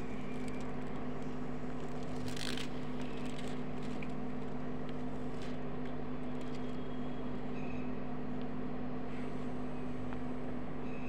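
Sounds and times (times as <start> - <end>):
low hum of constant tones: 0.0 - 11.0.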